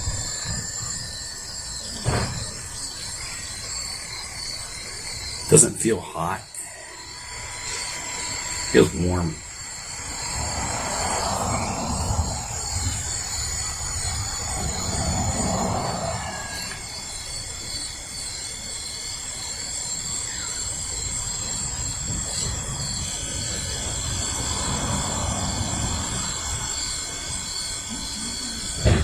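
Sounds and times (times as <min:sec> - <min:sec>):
coffee maker humming: 0:00.0 - 0:29.0.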